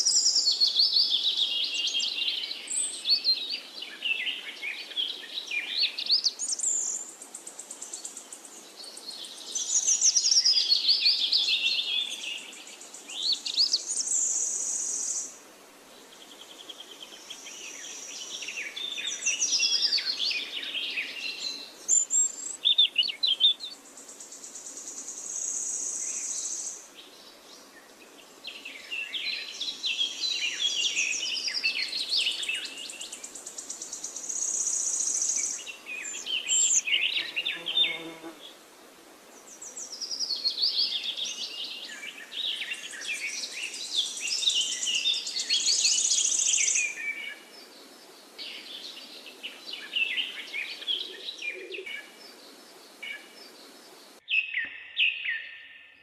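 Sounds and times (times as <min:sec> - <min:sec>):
forest birds chirping: 0:00.0 - 0:56.0.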